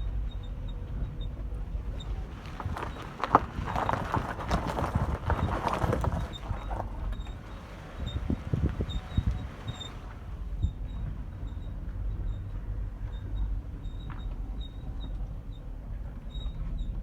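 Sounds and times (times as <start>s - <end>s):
low road rumble: 0.0s - 17.0s
car squeaking: 0.2s - 17.0s.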